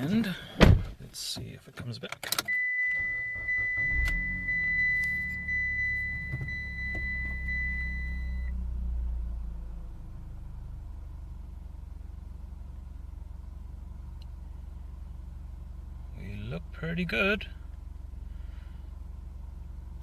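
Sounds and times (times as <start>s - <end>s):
car engine idling: 2.7s - 20.0s.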